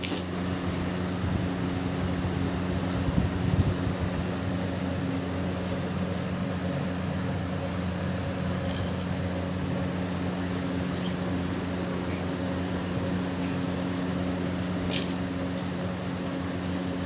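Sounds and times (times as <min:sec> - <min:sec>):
appliance motor hum: 0:00.0 - 0:17.0.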